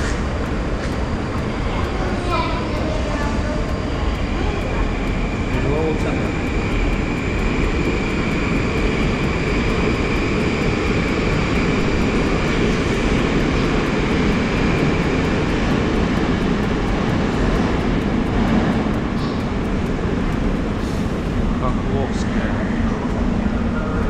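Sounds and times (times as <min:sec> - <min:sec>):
high whine: 0:00.0 - 0:24.0
train wheels rumbling: 0:00.0 - 0:24.0.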